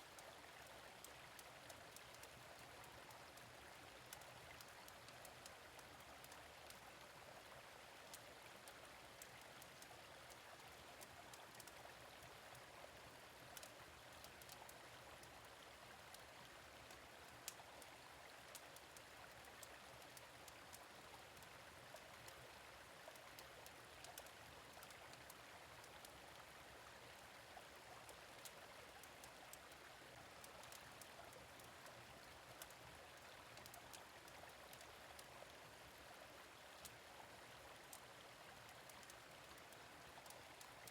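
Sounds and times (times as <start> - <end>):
gentle stream running: 0.0 - 40.9.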